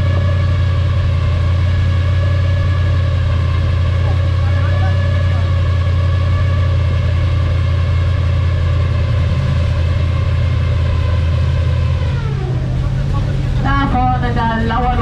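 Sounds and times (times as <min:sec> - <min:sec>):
boat motor humming and whining: 0:00.0 - 0:15.0.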